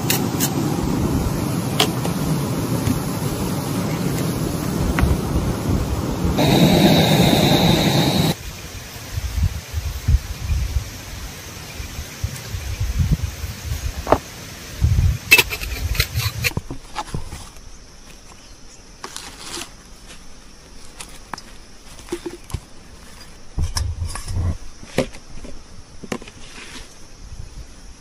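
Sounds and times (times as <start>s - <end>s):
high insect drone: 0.2s - 28.0s.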